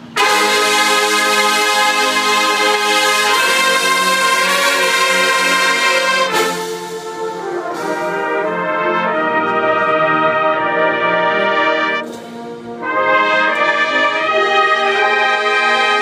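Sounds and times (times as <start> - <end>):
brass ensemble playing chords: 0.0 - 16.0.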